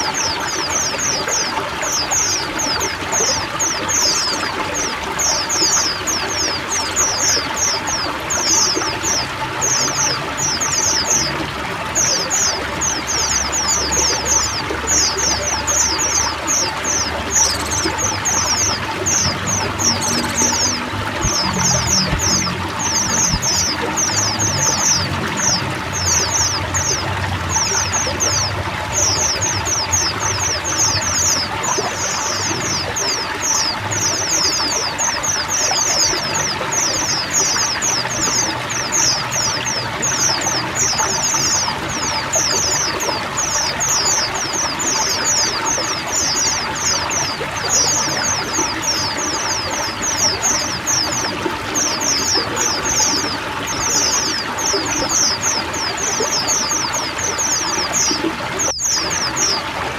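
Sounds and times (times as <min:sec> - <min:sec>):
flock of birds chirping: 0:00.0 - 0:59.9
running water: 0:00.0 - 0:59.9.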